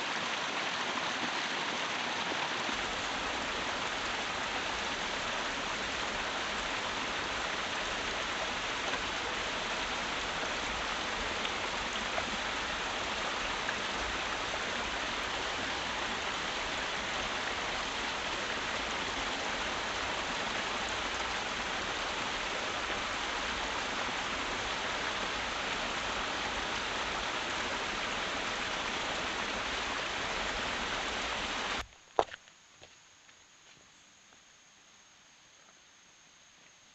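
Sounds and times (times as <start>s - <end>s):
rain falling: 0.0s - 32.9s.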